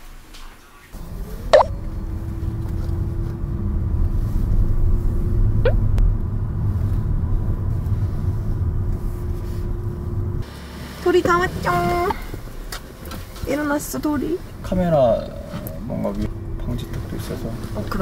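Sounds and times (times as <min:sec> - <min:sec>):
car rumble from inside cabin: 0:00.9 - 0:18.0.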